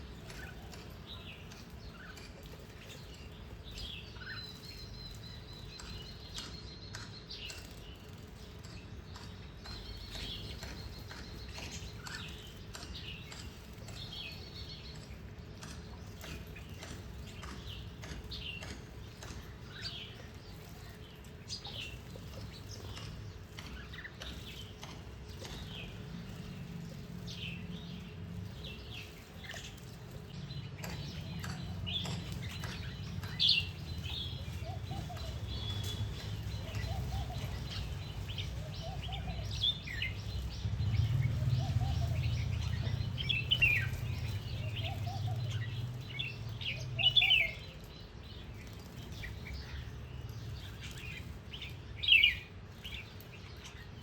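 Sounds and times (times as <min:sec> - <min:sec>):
small birds chirping: 0:00.0 - 0:54.0
wing flutters: 0:00.0 - 0:54.0.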